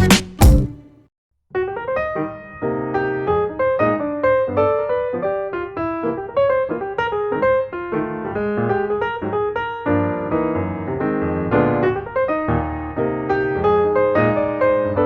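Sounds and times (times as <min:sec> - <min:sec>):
piano music: 0:00.0 - 0:01.0, 0:01.6 - 0:15.0.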